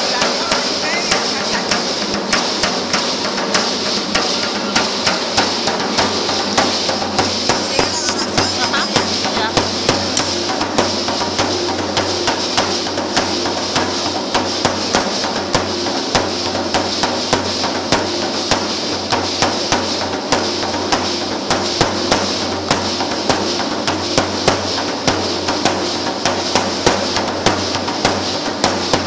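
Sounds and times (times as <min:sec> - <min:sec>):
rattling hiss: 0:00.0 - 0:29.0
sharp percussion clacks: 0:00.0 - 0:29.0.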